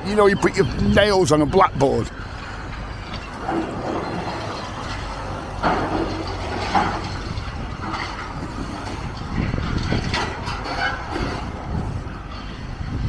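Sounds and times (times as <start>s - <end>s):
demolition machine engine rumble: 0.0s - 13.0s.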